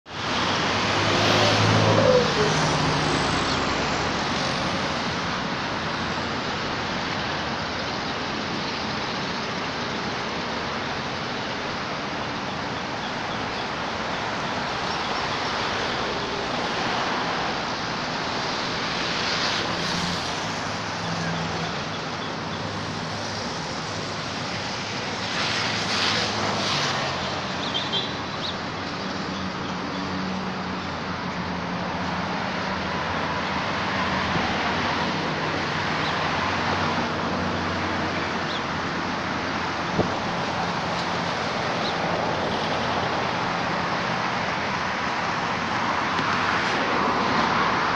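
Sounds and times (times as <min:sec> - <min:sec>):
road traffic noise: 0:00.0 - 0:47.9.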